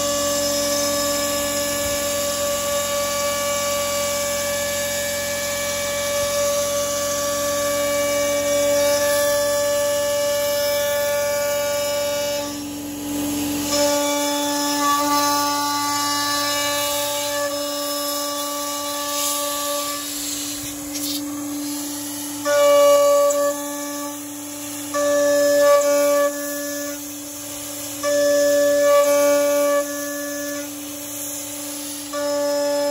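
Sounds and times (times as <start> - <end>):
router spindle cutting aluminium: 0.0 - 32.9.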